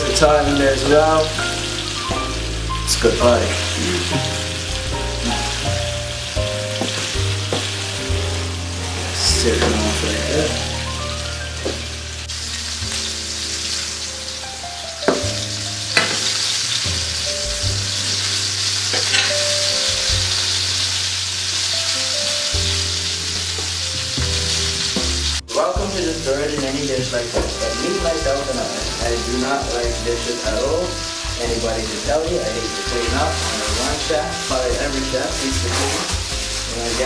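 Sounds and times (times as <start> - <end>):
meat sizzling in a frying pan: 0.0 - 37.0.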